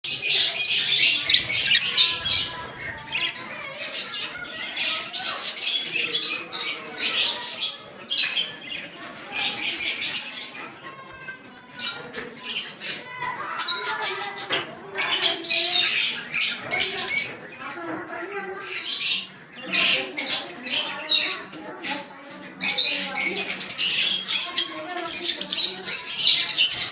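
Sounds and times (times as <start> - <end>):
birds chattering and squawking: 0.0 - 26.9.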